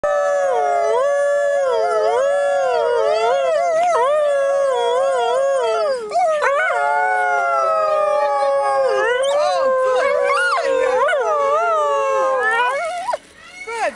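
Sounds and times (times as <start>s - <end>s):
coyote howling: 0.1s - 13.2s.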